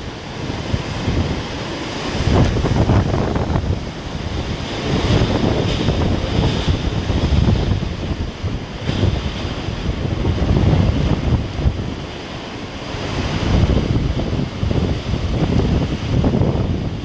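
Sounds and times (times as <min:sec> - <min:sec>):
wind gusts buffeting microphone: 0:00.0 - 0:17.0.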